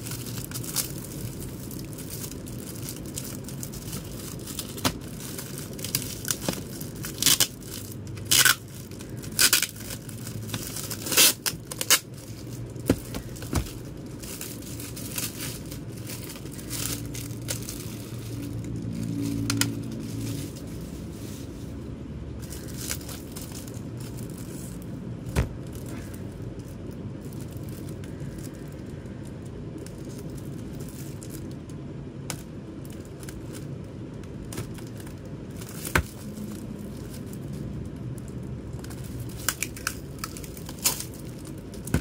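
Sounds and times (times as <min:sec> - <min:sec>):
plastic wrap crinkling and tearing: 0:00.0 - 0:42.0
steady low hum: 0:00.0 - 0:42.0.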